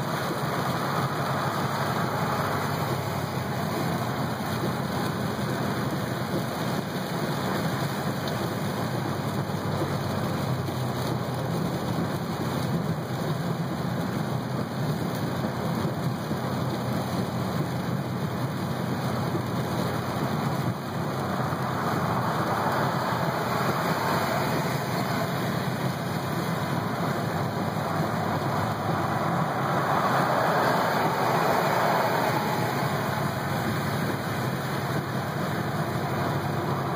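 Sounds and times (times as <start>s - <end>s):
heavy rain on car roof: 0.0s - 36.9s
tyre noise on wet road: 0.0s - 36.9s.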